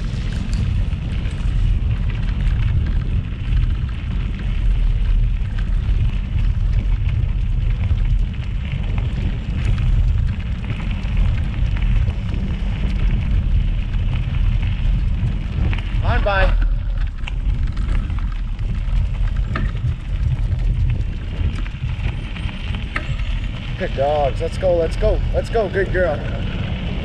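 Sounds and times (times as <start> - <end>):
tyres crunching on gravel: 0.0 - 27.0
wind buffeting microphone: 0.0 - 27.0.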